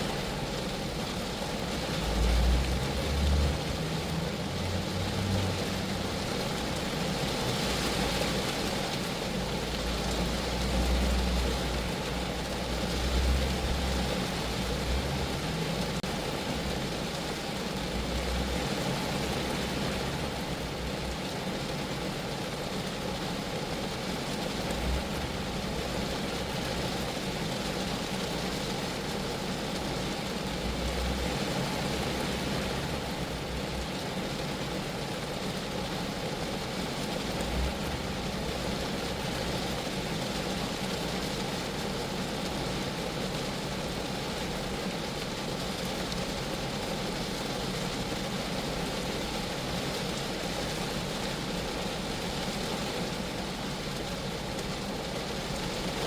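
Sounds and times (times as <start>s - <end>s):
rain falling on car body: 0.0s - 56.0s.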